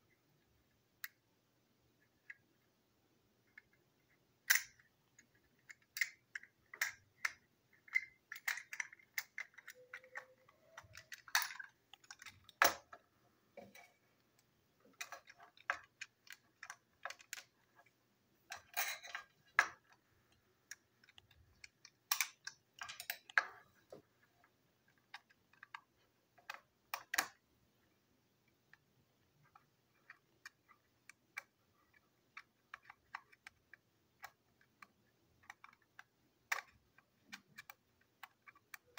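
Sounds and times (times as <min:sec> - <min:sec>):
toy parts clicking and tapping: 0:03.4 - 0:27.4, 0:28.4 - 0:38.9.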